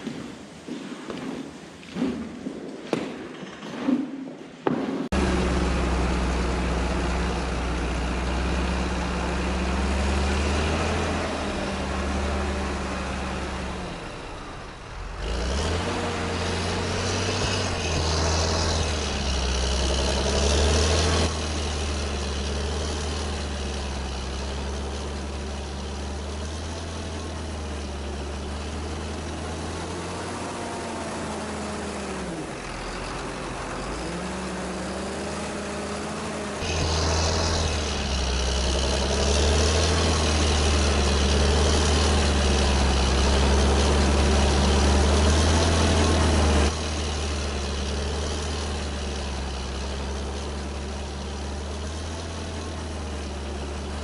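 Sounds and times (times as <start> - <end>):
engine running: 4.6 - 54.0.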